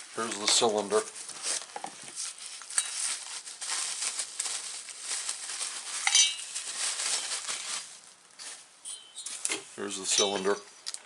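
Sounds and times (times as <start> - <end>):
plastic bags rustling: 0.0 - 10.5.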